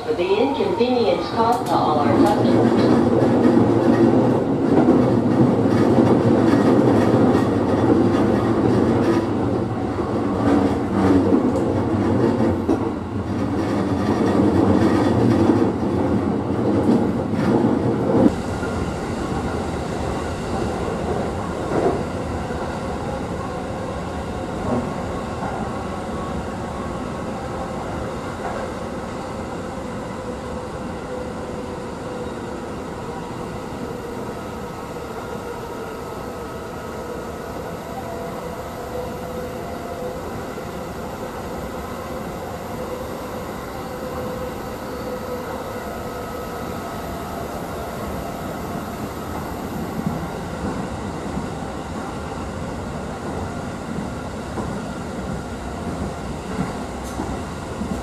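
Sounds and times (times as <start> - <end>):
train wheels rumbling on rail: 0.0 - 38.2, 39.3 - 58.0
smooth train hum: 0.0 - 58.0.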